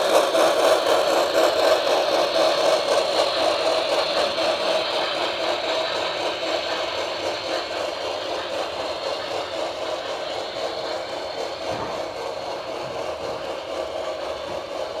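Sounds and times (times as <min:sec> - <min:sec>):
model train wheels whirring: 0:00.0 - 0:15.0.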